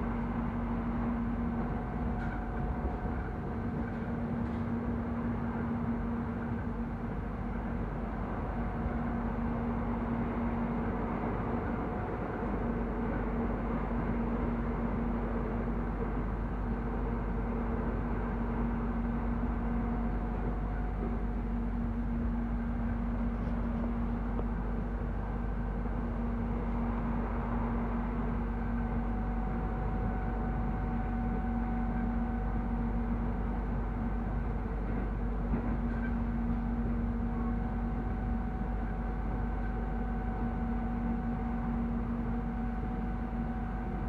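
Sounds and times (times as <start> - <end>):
constant hum: 0.0 - 44.0
train running rumble: 0.0 - 44.0.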